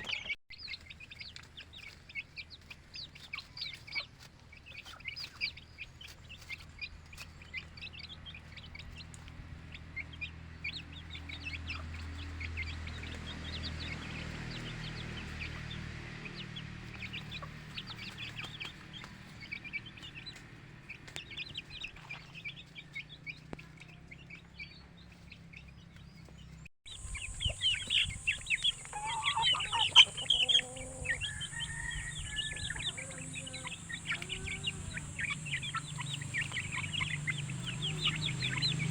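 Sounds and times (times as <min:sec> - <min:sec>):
chickens clucking: 0:00.0 - 0:38.9
chicks peeping: 0:00.0 - 0:38.9.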